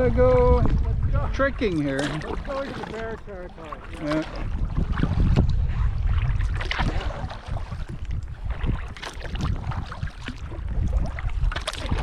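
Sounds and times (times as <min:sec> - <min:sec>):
wind buffeting microphone: 0:00.0 - 0:12.0
paddle splashing in water: 0:00.6 - 0:12.0.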